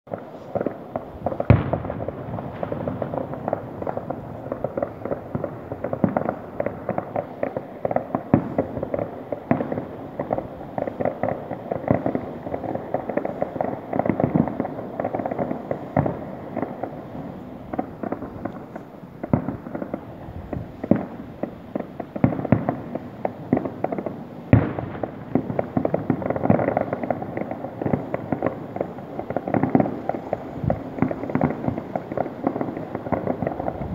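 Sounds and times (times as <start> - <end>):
fireworks bangs and crackles: 0.1 - 33.9.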